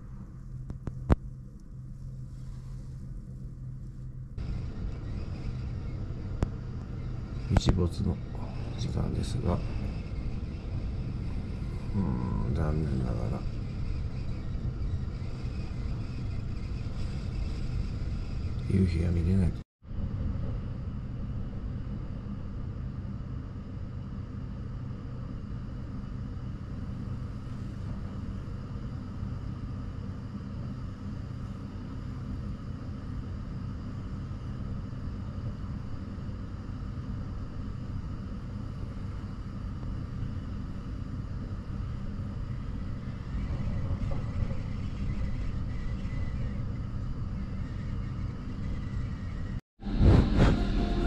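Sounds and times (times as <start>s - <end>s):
low mechanical drone: 0.0s - 51.0s.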